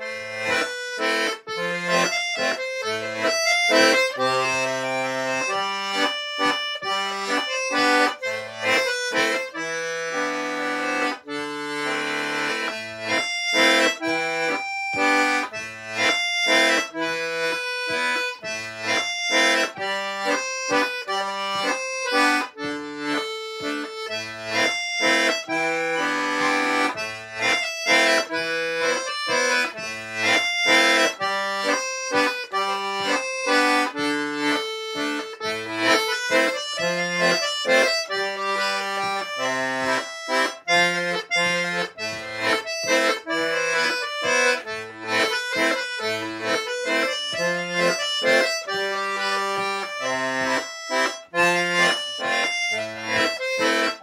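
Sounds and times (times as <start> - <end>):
button accordion dance tune: 0.0 - 54.0.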